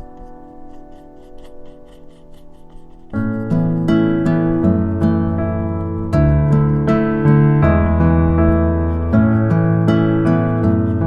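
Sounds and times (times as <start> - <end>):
soft plucked instrumental music: 0.0 - 11.0.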